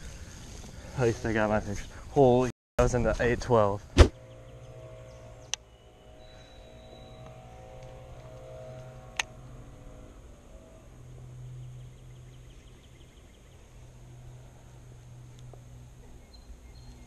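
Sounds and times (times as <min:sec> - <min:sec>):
steady low hum: 0:02.8 - 0:17.0.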